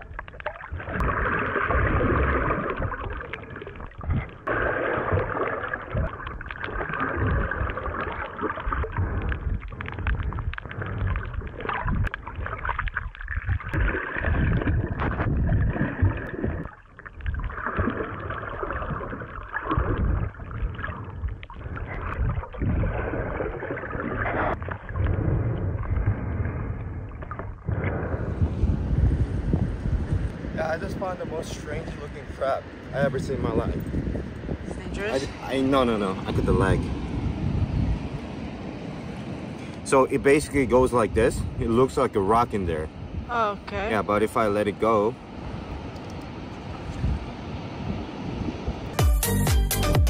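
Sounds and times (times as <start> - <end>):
muffled water sloshing underwater: 0.0 - 49.0.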